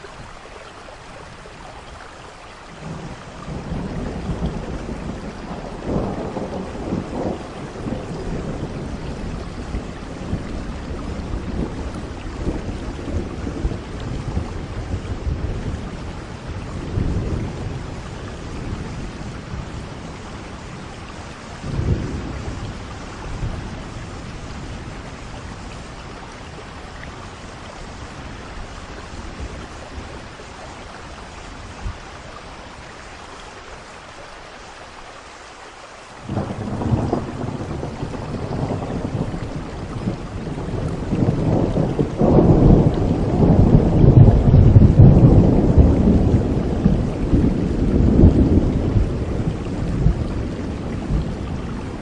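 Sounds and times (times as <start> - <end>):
steady rain: 0.0 - 52.0
thunder rumbling: 2.8 - 32.6, 36.2 - 52.0.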